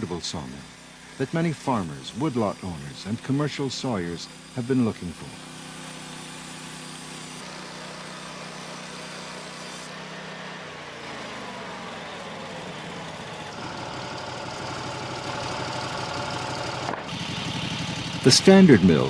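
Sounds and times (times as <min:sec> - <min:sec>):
sawmill engine whining: 0:00.0 - 0:19.0.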